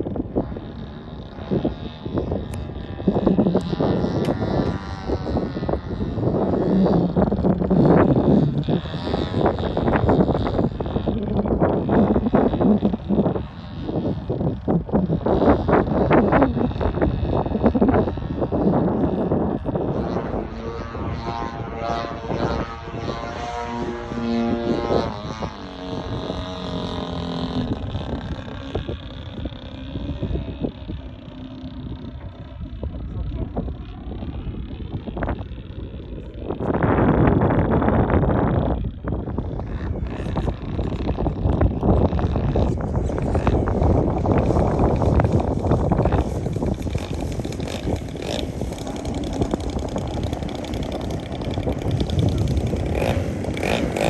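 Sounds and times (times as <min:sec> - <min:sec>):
model airplane engine and propeller: 0:00.0 - 0:54.0
wind rumbling on microphone: 0:00.0 - 0:54.0.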